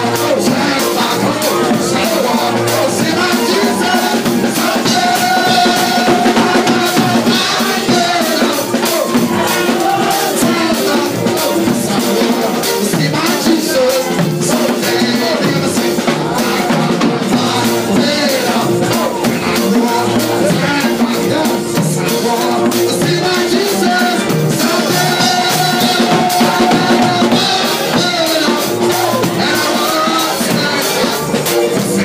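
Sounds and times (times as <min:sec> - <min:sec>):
drum kit playing a steady beat: 0:00.0 - 0:32.0
voices singing through microphones: 0:00.0 - 0:32.0.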